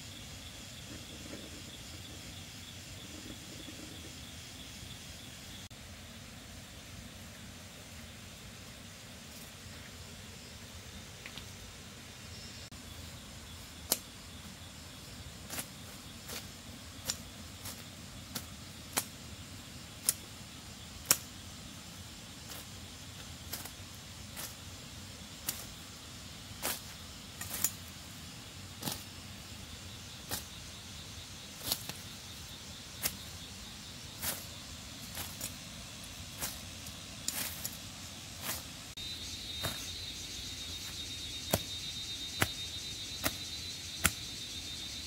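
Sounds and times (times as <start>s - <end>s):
faint hiss: 0.0s - 45.0s.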